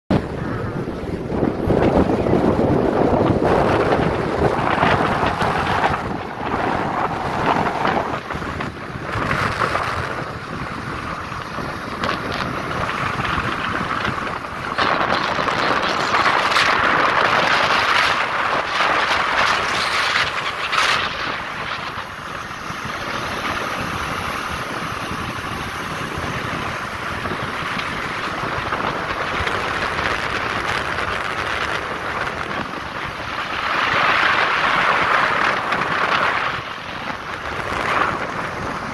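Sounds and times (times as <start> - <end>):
wind rushing over microphone: 0.1 - 38.9.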